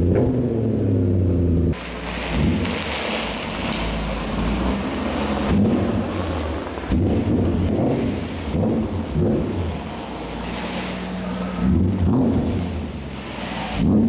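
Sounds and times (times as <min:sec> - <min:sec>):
car engine deep rumble: 0:00.0 - 0:14.0.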